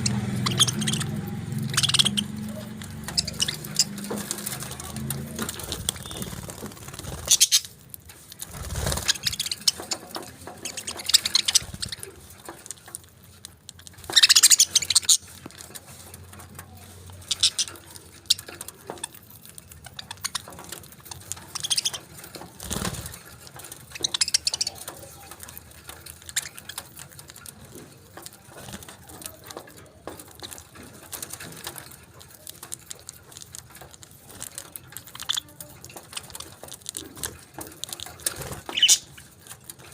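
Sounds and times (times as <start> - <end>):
parakeets chirping: 0.0 - 39.9.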